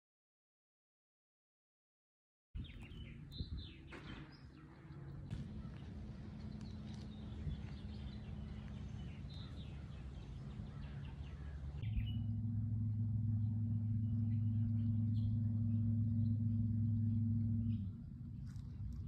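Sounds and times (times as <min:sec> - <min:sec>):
birds chirping: 0:02.6 - 0:19.0
loud steady low hum: 0:02.6 - 0:19.0.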